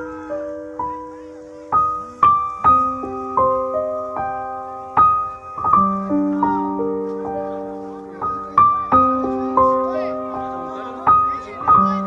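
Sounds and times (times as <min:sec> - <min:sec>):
piano notes and chords: 0:00.0 - 0:12.0.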